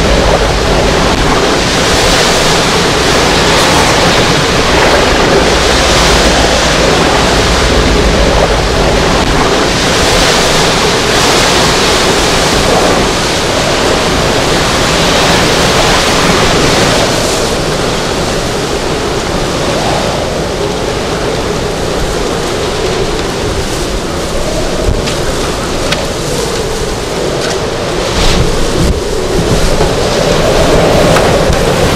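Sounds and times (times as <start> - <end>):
driving rain: 0.0 - 31.9
strong wind gusting: 0.0 - 31.9.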